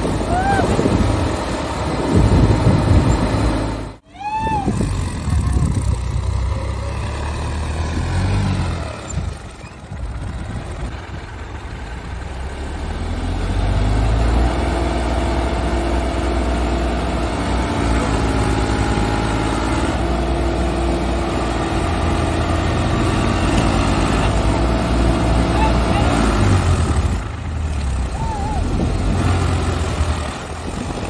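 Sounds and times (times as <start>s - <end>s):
diesel tractor engines under load: 0.0s - 31.0s.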